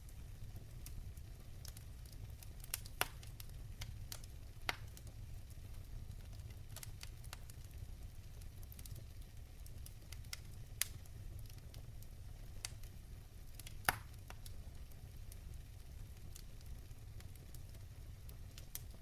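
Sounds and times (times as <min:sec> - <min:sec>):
fire crackling: 0:00.0 - 0:19.0
low rumble of fire: 0:00.0 - 0:19.0.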